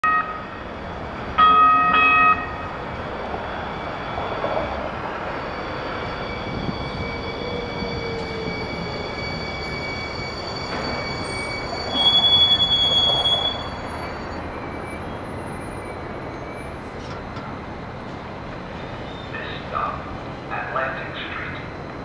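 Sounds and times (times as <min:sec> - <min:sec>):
light rail train rumble and whine: 0:00.0 - 0:22.0.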